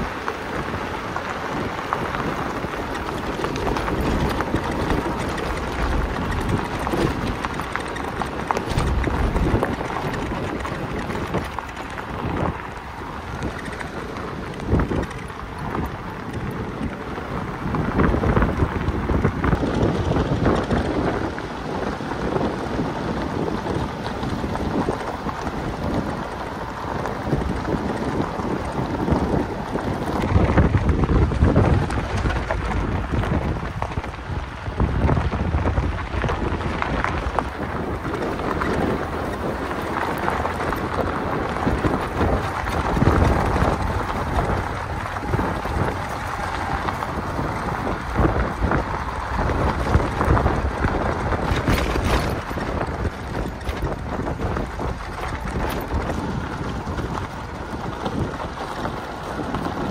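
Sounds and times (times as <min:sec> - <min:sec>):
vehicle driving on gravel: 0:00.0 - 0:59.9
wind buffeting microphone: 0:00.0 - 0:59.9.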